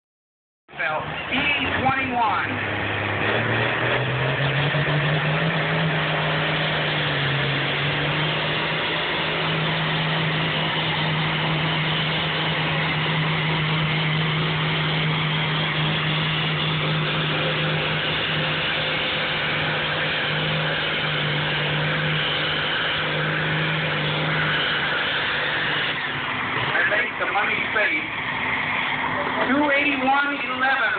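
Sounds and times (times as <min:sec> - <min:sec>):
tractor diesel engine at full throttle: 0:00.7 - 0:30.9.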